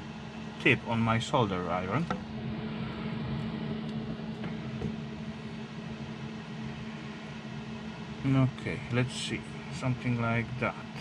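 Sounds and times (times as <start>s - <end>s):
low machine hum with hiss: 0.0s - 11.0s.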